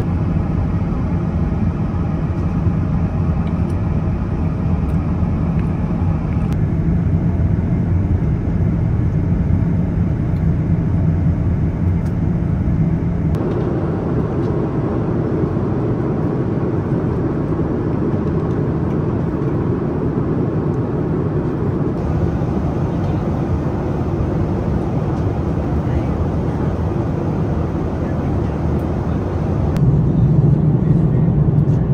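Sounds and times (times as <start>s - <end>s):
airliner cabin rumble: 0.0s - 31.9s.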